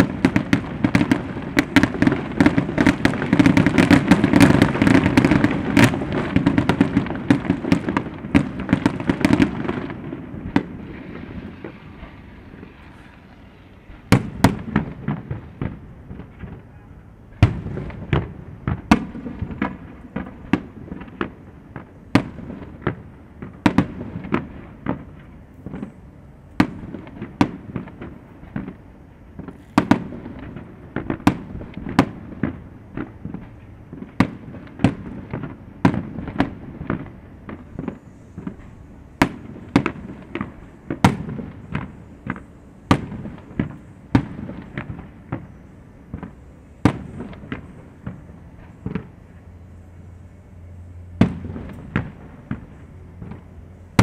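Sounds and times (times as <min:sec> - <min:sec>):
fireworks bursting with bangs: 0:00.0 - 0:54.0.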